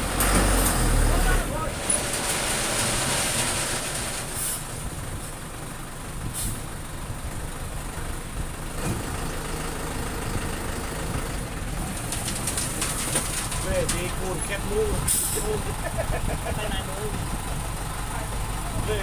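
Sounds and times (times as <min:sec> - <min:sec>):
distant road traffic: 0:00.0 - 0:19.0.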